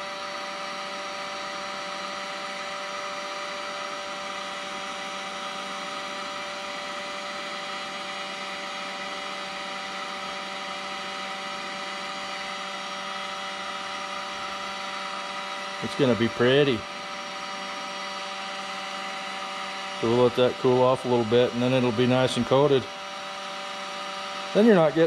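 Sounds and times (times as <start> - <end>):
heat gun blowing air: 0.0 - 25.0
motor whine: 0.0 - 25.0.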